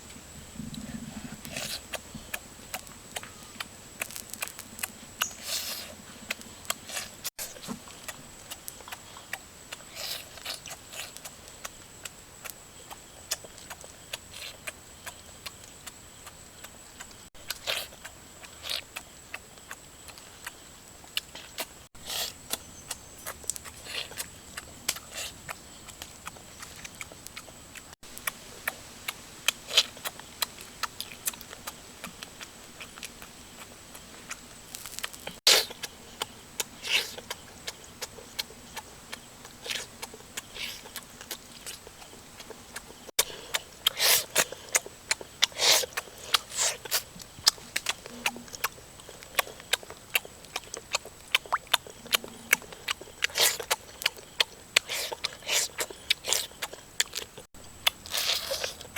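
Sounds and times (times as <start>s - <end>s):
person chewing and biting: 0.8s - 58.9s.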